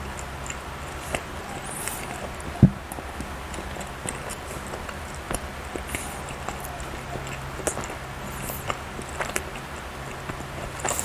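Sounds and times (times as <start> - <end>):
wet chewing mouth clicks: 0.0 - 11.0.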